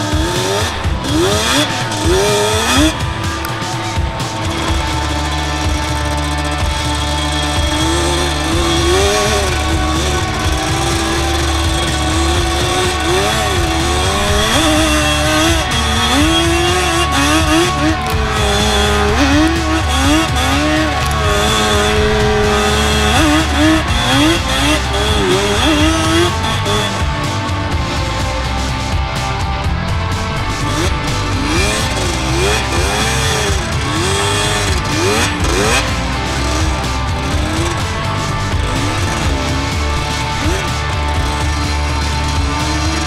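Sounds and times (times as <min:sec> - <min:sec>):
quad engine revving: 0:00.0 - 0:43.0
rock music: 0:00.0 - 0:43.0.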